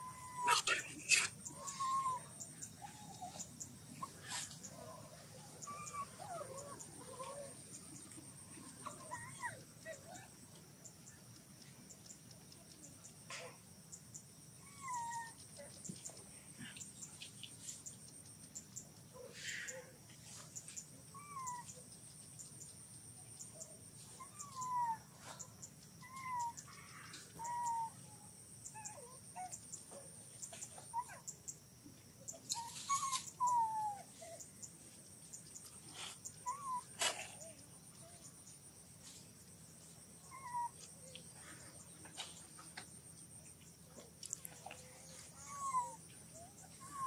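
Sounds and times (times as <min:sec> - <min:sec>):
high insect whine: 0:00.0 - 0:47.0.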